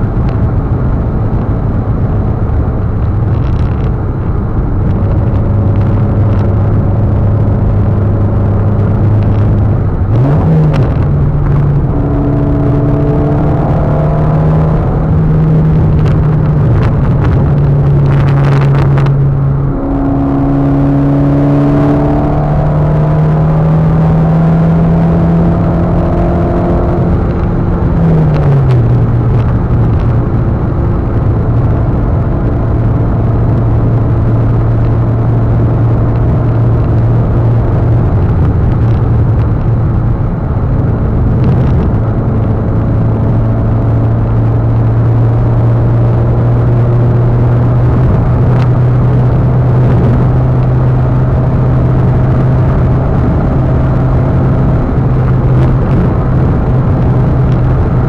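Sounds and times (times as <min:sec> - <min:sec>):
car engine running: 0:00.0 - 0:58.0
road and tyre noise: 0:00.0 - 0:58.0.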